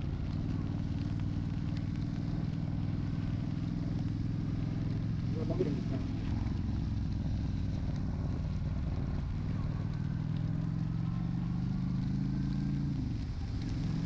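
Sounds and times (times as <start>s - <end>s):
motorcycle engine running: 0.0s - 14.0s
wind and rain noise: 0.0s - 14.0s.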